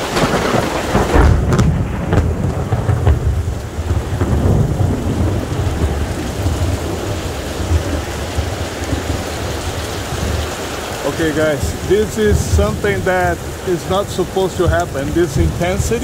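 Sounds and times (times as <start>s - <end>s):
sharp thunder cracks: 0.0s - 9.5s, 11.3s - 16.0s
rain pouring: 0.0s - 16.0s
thunder rumbling: 0.0s - 16.0s.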